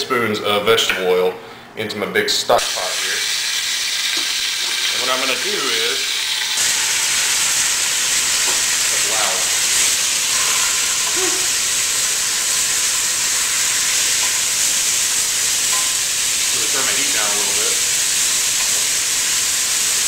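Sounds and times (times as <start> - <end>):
meat sizzling in hot oil: 2.6 - 20.0.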